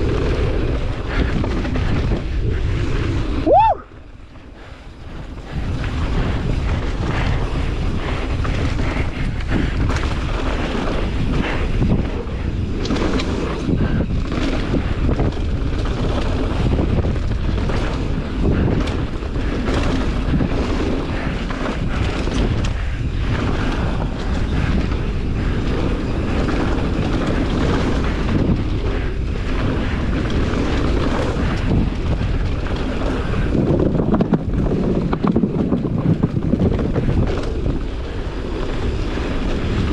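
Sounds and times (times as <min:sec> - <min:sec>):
tyres rumbling on dirt trail: 0:00.0 - 0:39.9
wind rushing over microphone: 0:00.0 - 0:39.9
bike knocks and rattles: 0:05.1 - 0:39.9.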